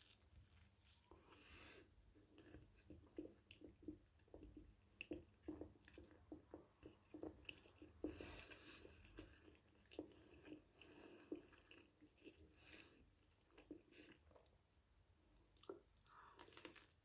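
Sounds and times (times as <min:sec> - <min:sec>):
chewing toasted bread: 0:00.0 - 0:14.6, 0:15.4 - 0:17.0.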